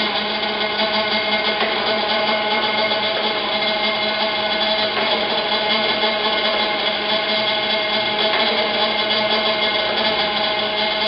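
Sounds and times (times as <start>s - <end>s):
surface grinder running: 0.0s - 11.0s.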